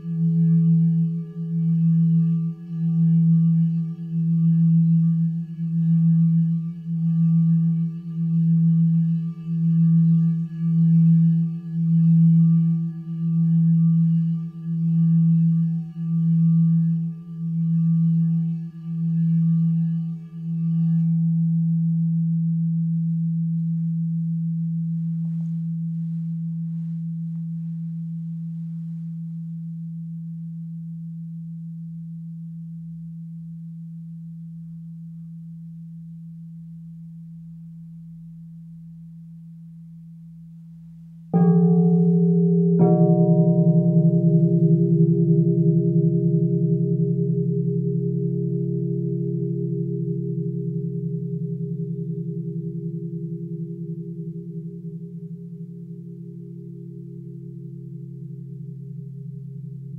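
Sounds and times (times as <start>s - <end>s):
singing bowl tone: 0.0s - 59.9s.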